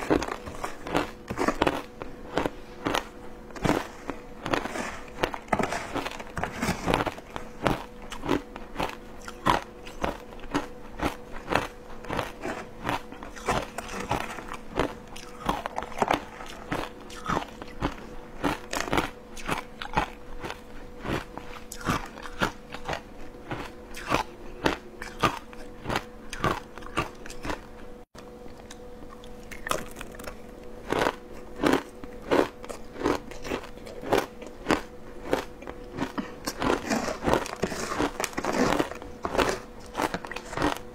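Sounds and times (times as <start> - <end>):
chewing crunchy shaved ice: 0.0 - 40.9.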